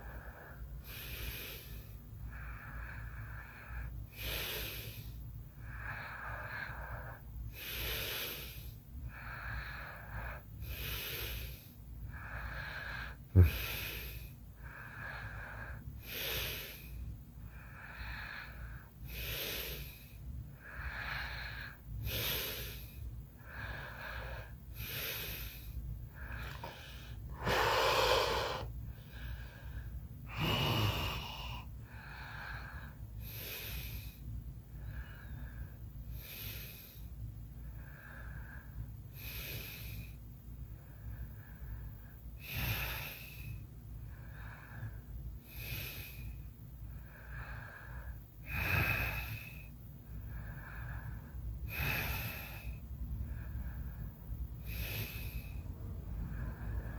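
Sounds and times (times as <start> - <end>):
person breathing with light snoring: 0.0 - 56.9.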